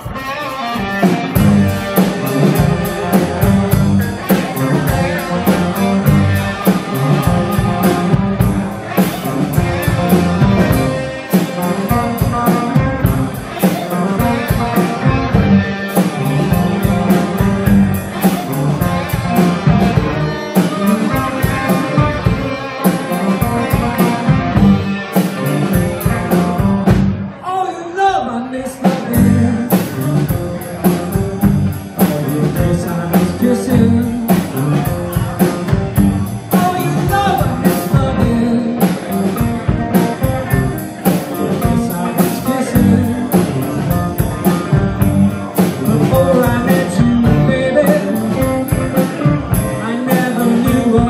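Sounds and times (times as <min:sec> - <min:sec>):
drum kit steady beat: 0:00.0 - 0:27.2, 0:28.8 - 0:51.0
electric guitars through amplifiers: 0:00.0 - 0:51.0.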